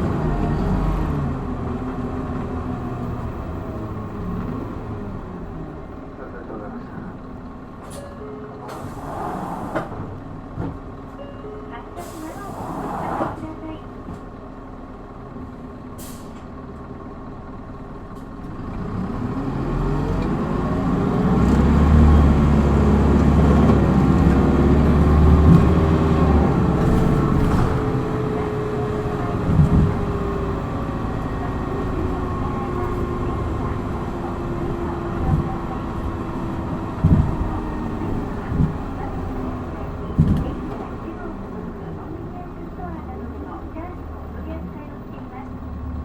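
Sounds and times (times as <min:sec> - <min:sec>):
bus diesel engine accelerating: 0:00.0 - 0:46.0.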